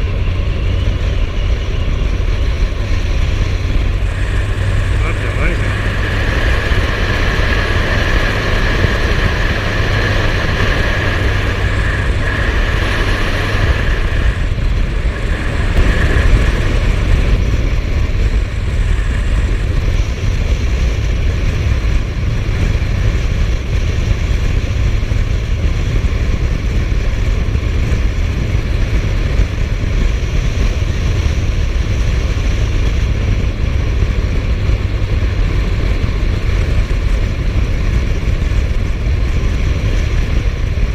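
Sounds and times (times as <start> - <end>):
high steady whine: 0.0 - 40.9
motorcycle engine running: 0.0 - 40.9
wind rush on microphone: 0.0 - 40.9.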